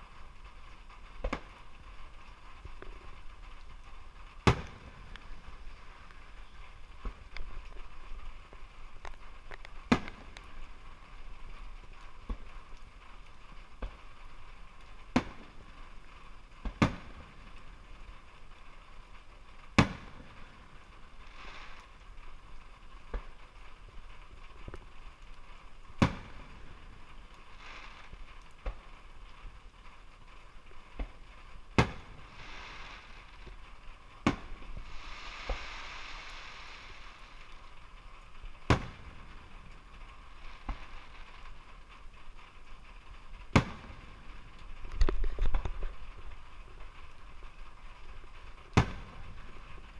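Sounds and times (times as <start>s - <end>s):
fireworks bangs: 0.0s - 49.9s
fireworks crackle hissing: 0.0s - 49.9s.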